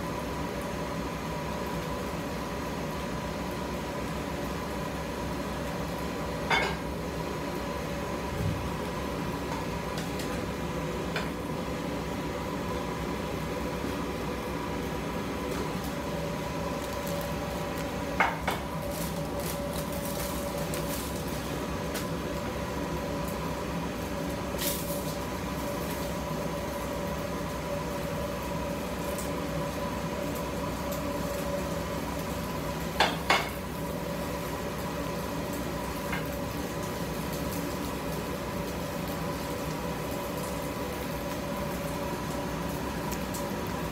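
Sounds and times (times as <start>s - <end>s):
steady machine hum: 0.0s - 43.9s.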